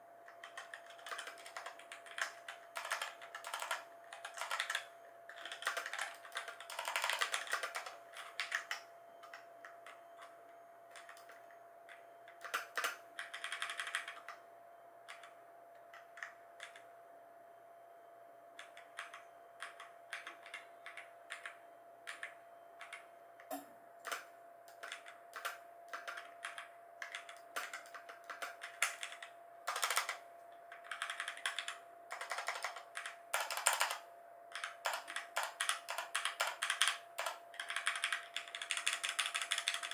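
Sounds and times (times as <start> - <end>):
mechanical keyboard typing: 0.3 - 10.3, 10.9 - 14.4, 15.1 - 16.9, 18.6 - 39.9.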